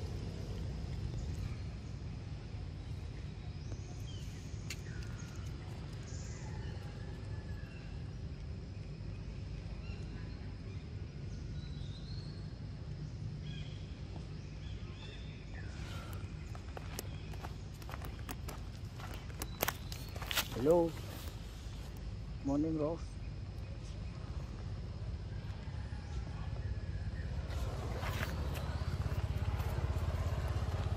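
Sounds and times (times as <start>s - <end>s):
steady low rumble: 0.0s - 22.4s, 23.0s - 30.9s.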